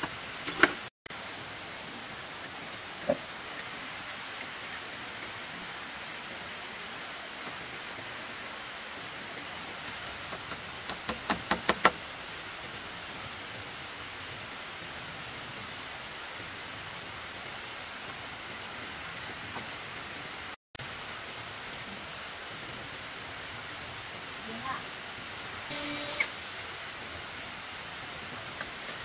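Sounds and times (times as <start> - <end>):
background hiss: 0.0 - 29.0.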